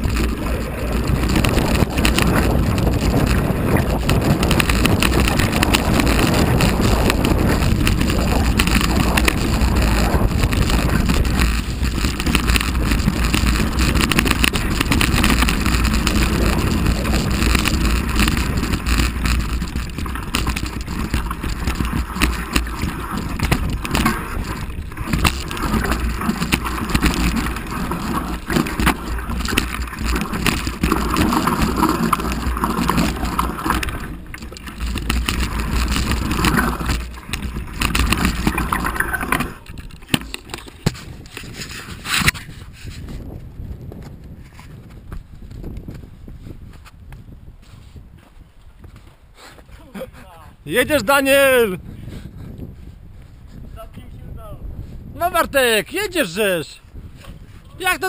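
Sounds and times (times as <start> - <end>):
bike clattering over rough trail: 0.0 - 58.0
tyre noise: 0.0 - 58.0
wind buffeting microphone: 0.0 - 58.0.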